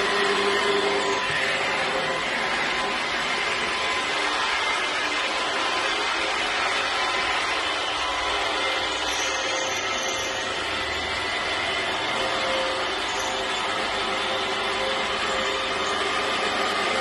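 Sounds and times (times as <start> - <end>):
floor grinder whining: 0.0 - 17.0.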